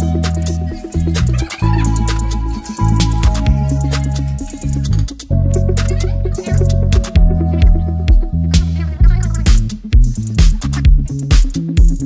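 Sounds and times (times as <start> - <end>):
music with deep bass beat: 0.0 - 12.0.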